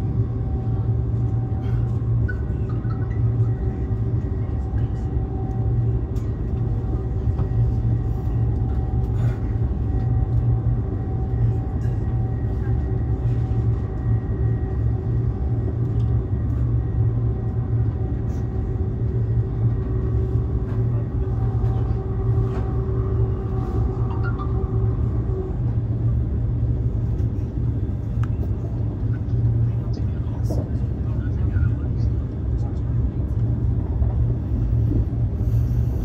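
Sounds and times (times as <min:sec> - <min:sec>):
constant hum: 0:00.0 - 0:36.0
train low rumble: 0:00.0 - 0:36.0.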